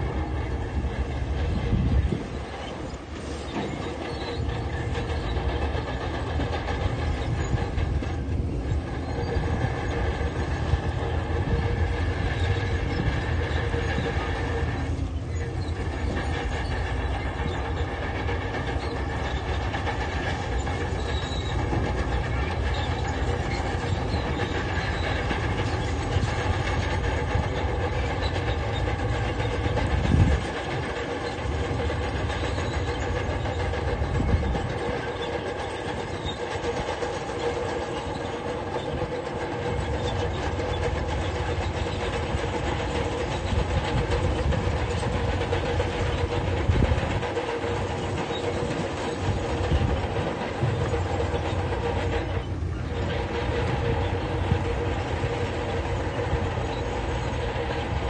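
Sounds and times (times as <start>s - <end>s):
steel tracks clattering: 0.0s - 58.0s.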